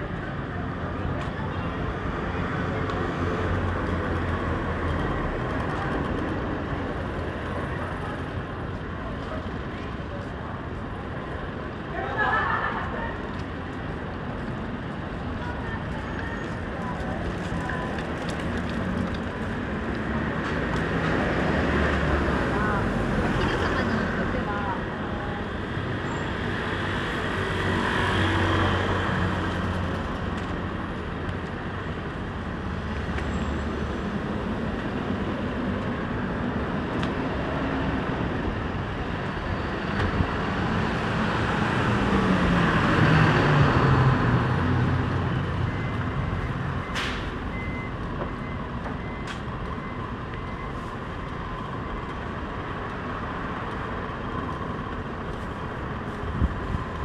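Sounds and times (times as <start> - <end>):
street traffic passing: 0.0 - 57.0.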